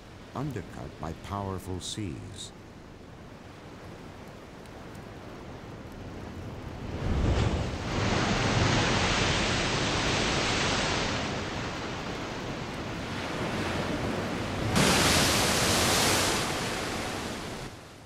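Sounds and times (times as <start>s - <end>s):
waves crashing on cliffs: 0.0s - 18.0s
foaming water rushing: 3.0s - 17.8s.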